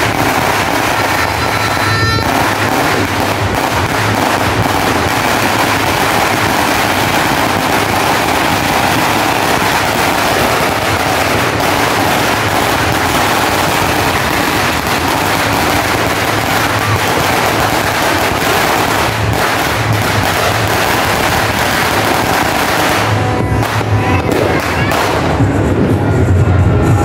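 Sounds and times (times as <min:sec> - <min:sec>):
string of firecrackers going off: 0:00.0 - 0:27.0.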